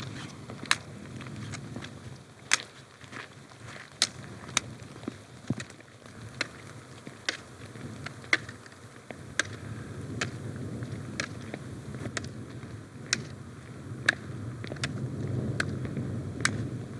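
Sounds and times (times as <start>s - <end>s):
footsteps on rough ground: 0.0s - 16.9s
low rumble of wind: 0.0s - 16.9s.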